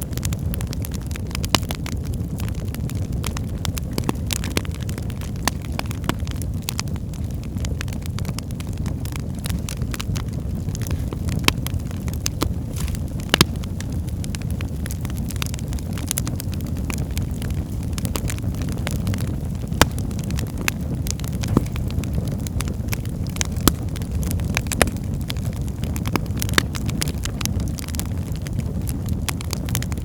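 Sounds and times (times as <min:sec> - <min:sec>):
fire crackling in fireplace: 0:00.0 - 0:30.0.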